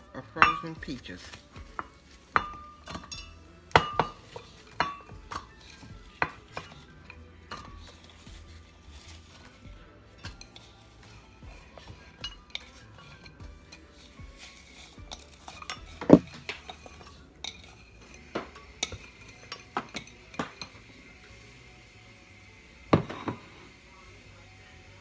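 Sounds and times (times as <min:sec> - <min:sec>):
frozen fruit clinking against glass: 0:00.1 - 0:20.9.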